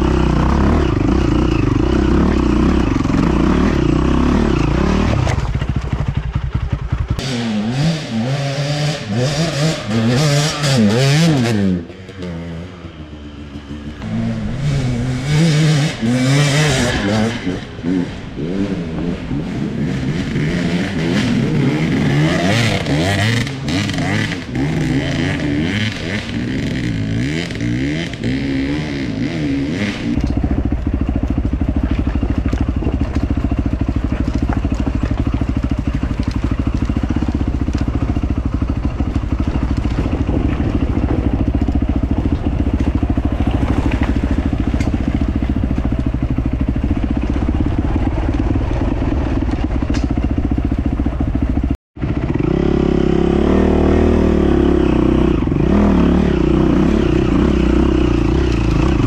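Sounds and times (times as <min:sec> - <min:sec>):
motorcycle engine revving: 0:00.0 - 0:59.0
steady engine drone: 0:00.0 - 0:59.0.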